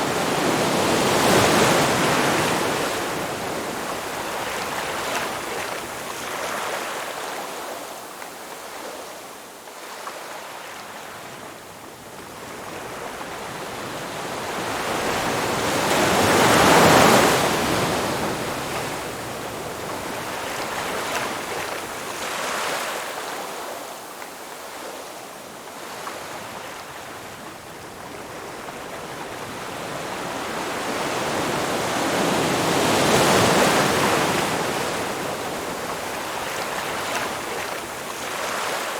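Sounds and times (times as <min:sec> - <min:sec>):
waves breaking on beach: 0:00.0 - 0:11.5, 0:12.4 - 0:38.9.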